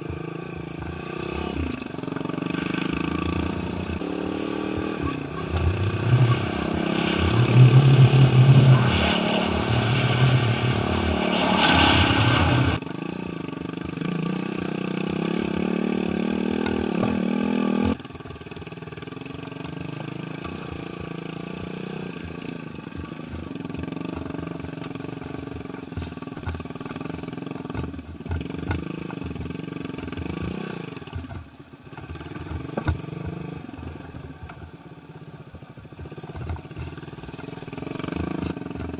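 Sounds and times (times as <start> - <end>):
small motorcycle engine revving: 0.0 - 38.9.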